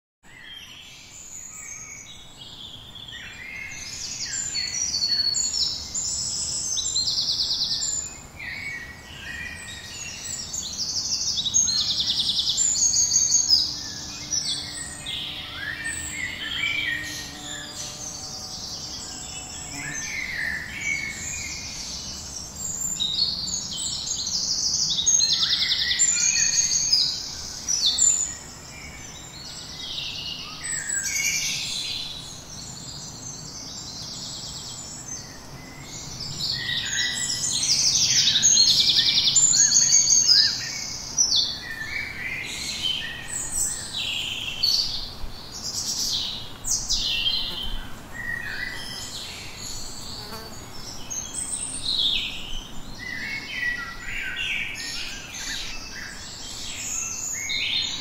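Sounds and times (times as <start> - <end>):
songbirds chirping and trilling: 0.2 - 58.0.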